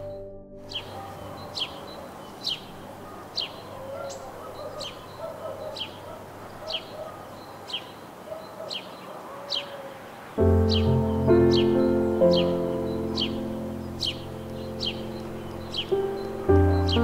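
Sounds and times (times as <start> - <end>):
bird chirping: 0.0 - 17.0
low wavering bird calls: 0.0 - 17.0
steady outdoor background: 0.0 - 17.0.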